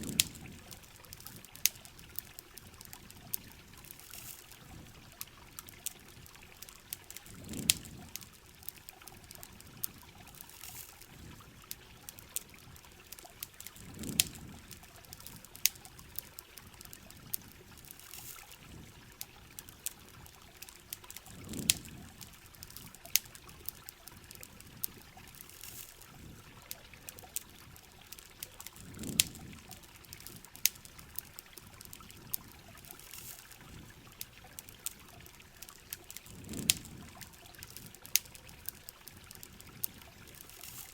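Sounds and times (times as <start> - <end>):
trickling dripping water: 0.0 - 40.9.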